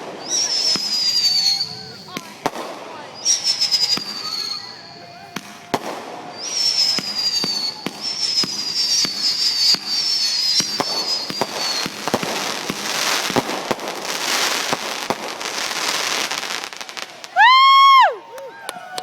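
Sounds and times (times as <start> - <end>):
firework pops: 0.0 - 4.7, 5.3 - 17.6
firework whistles sliding down: 0.0 - 18.2
firework crackling and bangs: 0.0 - 19.0.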